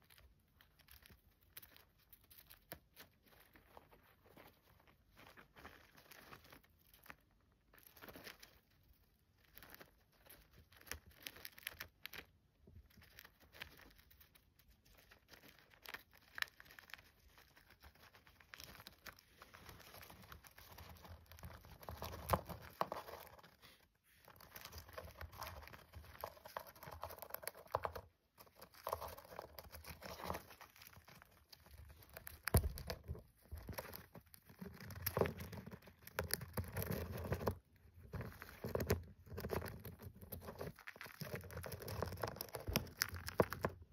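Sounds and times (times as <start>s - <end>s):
hamster gnawing peanut shell: 0.0s - 43.9s.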